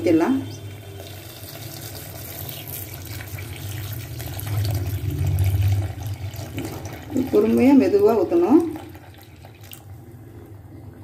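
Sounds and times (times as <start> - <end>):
liquid pouring into a pot: 0.6 - 11.0.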